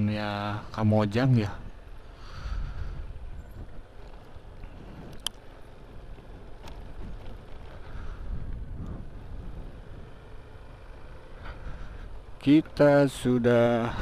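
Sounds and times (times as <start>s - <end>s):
scooter engine and road rumble: 0.0s - 14.0s.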